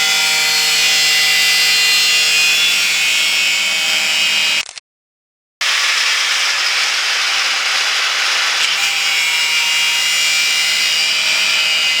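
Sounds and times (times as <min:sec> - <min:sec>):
angle grinder cutting: 0:00.0 - 0:04.7, 0:05.6 - 0:12.0.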